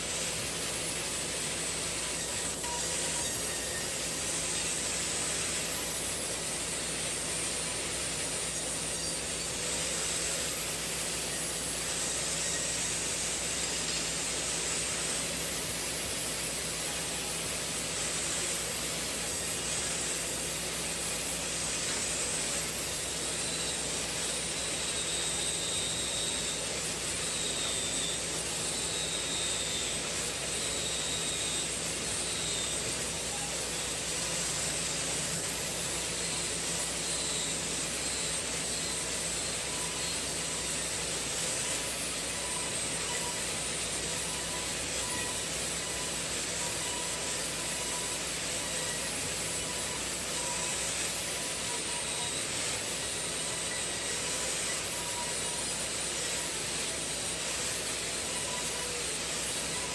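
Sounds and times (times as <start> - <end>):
band saw cutting a log: 0.0 - 59.9
other band saws running: 0.0 - 59.9.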